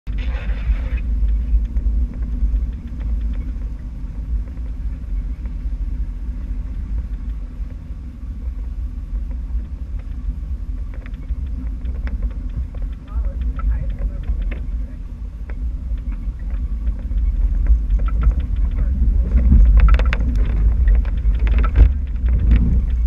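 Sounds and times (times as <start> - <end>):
car engine rumbling: 0.1 - 23.0.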